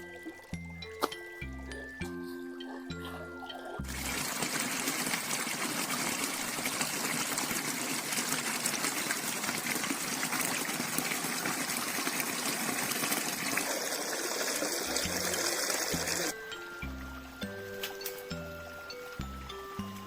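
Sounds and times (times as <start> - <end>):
flowing water rushing: 2.8 - 20.0.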